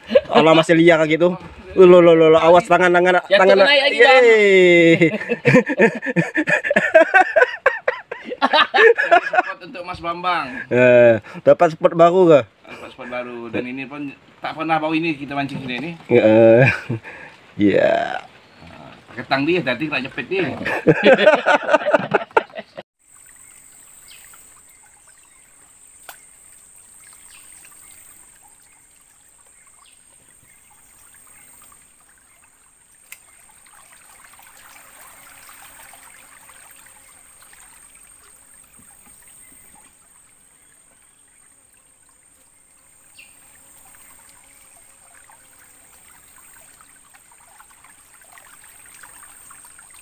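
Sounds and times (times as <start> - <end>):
river water flowing around boat: 0.0 - 50.0.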